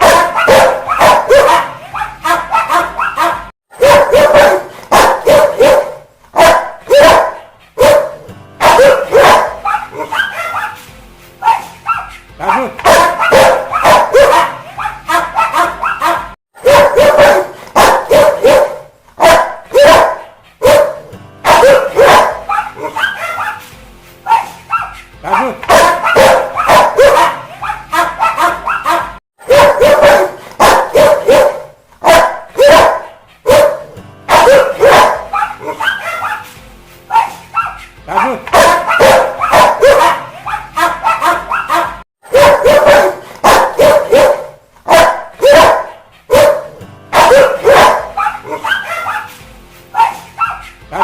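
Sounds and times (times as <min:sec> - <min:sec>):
dog barking angrily: 0:00.0 - 0:10.8, 0:11.4 - 0:23.6, 0:24.3 - 0:36.5, 0:37.1 - 0:49.3, 0:50.0 - 0:51.0.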